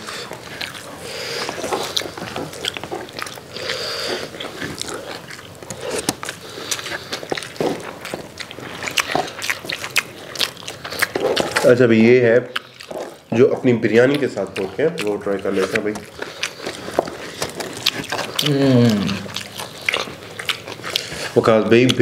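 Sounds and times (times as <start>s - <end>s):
mouths chewing food: 0.0s - 22.0s.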